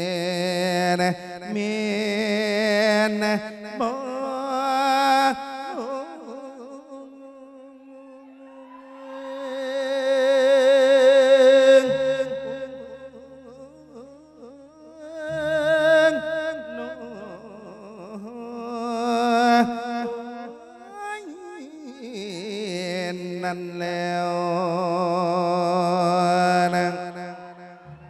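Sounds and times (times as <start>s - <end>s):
man singing into a microphone: 0.0s - 28.0s.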